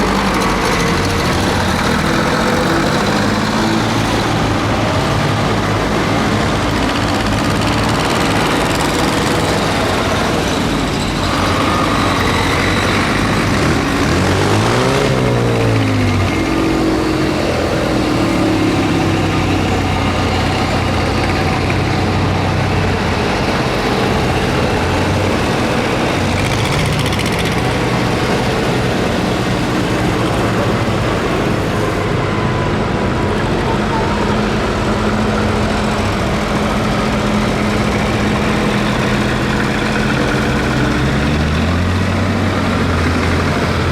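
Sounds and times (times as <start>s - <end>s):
tractor engines running: 0.0s - 43.9s.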